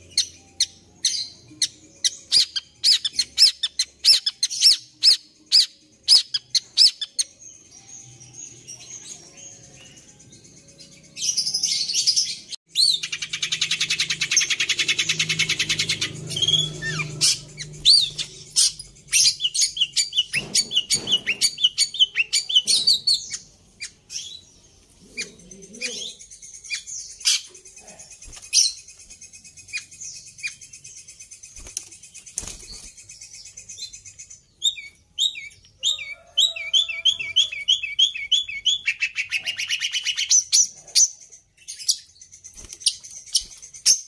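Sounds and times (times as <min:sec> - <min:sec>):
bird chirping and trilling: 0:00.0 - 0:44.0.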